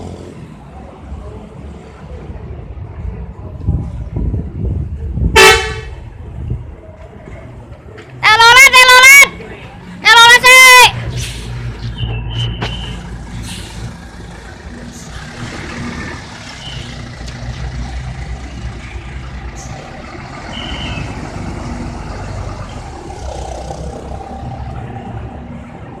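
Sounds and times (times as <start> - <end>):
bus engine running: 0.0 - 26.0
road traffic noise: 0.0 - 26.0.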